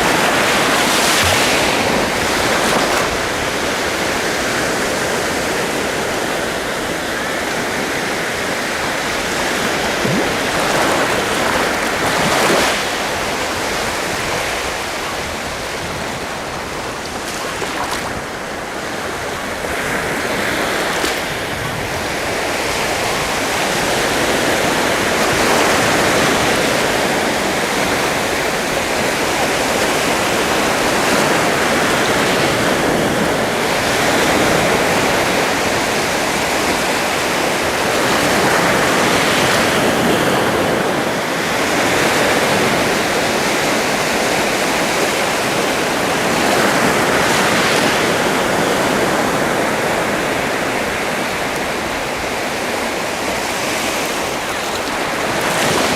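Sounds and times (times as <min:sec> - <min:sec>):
sea waves breaking: 0:00.0 - 0:55.9.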